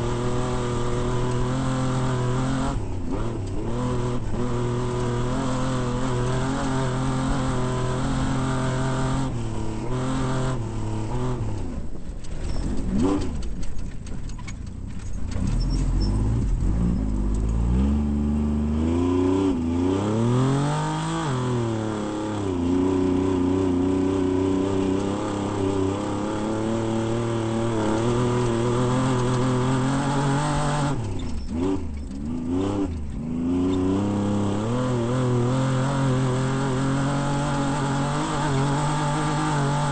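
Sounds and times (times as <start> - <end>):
race vehicle engine revving: 0.0 - 13.7, 15.3 - 39.9.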